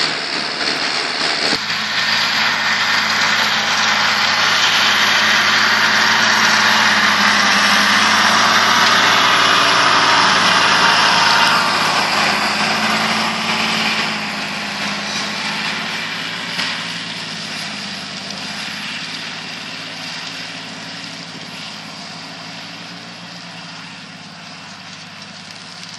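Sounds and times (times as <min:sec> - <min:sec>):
tractor diesel engine under load: 0:00.0 - 0:25.9.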